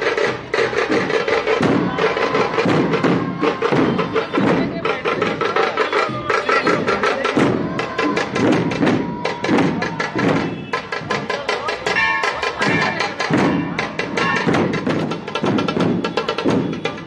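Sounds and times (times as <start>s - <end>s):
barrel drums beaten with sticks: 0.0s - 17.0s.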